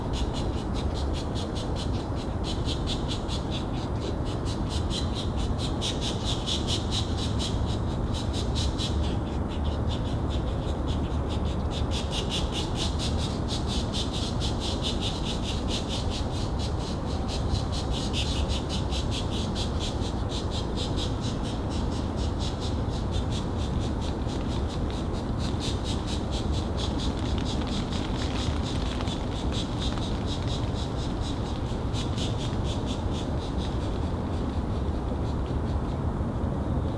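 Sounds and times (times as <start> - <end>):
woodpecker nestlings begging calls: 0.2 - 35.5.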